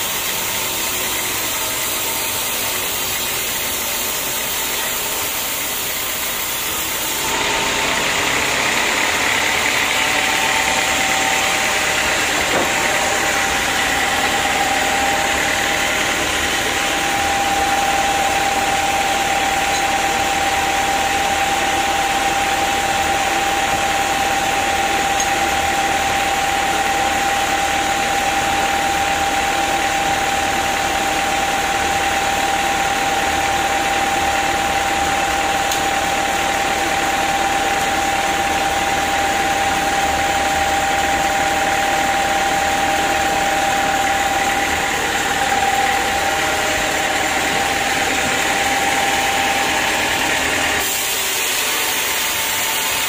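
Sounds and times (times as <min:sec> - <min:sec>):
band sawmill sawing log: 0:00.0 - 0:53.0
steady whine: 0:00.0 - 0:53.0.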